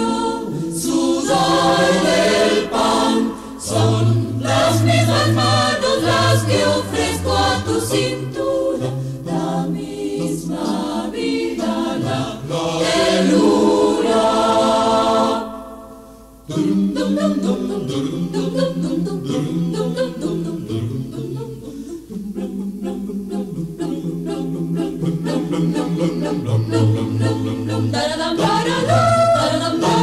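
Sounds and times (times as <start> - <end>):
choir singing a cappella: 0.0 - 30.0.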